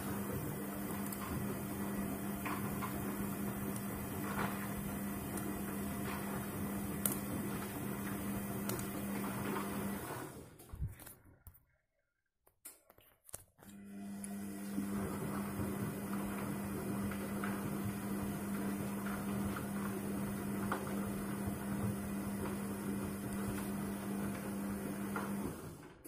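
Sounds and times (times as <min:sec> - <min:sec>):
drum motor humming: 0:00.0 - 0:10.1, 0:14.4 - 0:25.9
washing machine tumbling load: 0:00.0 - 0:10.9, 0:14.4 - 0:26.0.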